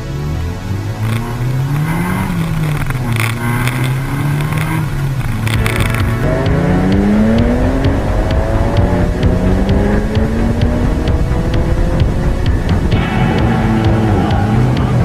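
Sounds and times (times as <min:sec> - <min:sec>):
car engine accelerating: 0:00.0 - 0:15.0
car engine revving: 0:00.0 - 0:15.0.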